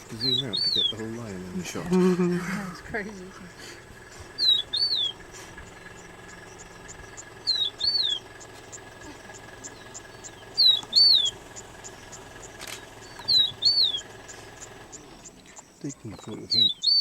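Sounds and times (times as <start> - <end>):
songbird whistling: 0.2 - 1.0, 4.2 - 17.0.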